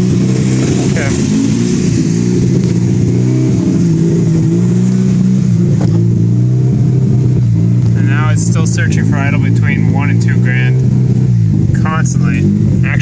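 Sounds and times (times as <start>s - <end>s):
rotary engine idling unevenly: 0.0s - 13.0s.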